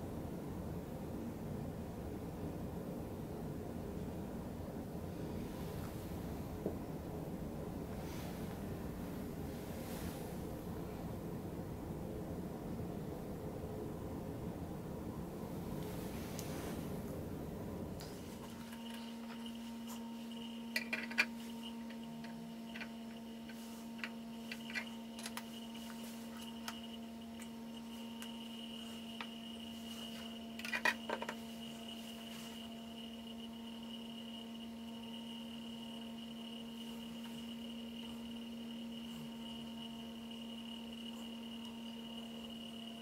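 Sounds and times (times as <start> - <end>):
steady background hum: 0.0 - 43.0.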